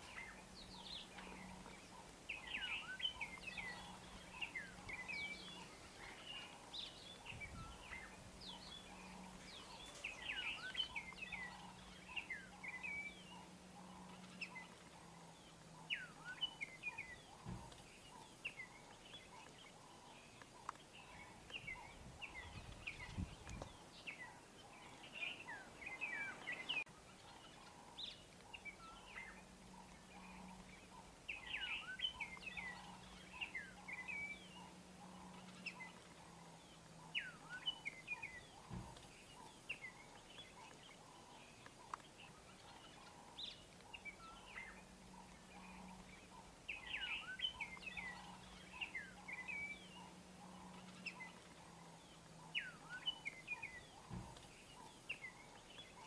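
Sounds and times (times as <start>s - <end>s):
faint hum: 0.0s - 56.0s
small birds chirping: 0.0s - 56.0s.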